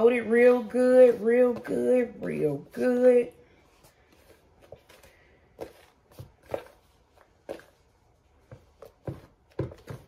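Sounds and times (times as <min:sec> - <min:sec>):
soft rustling in flour: 0:00.0 - 0:10.0.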